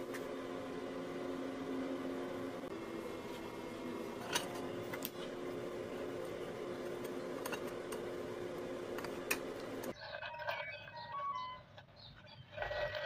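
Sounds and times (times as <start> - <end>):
steady background hum: 0.0 - 11.5.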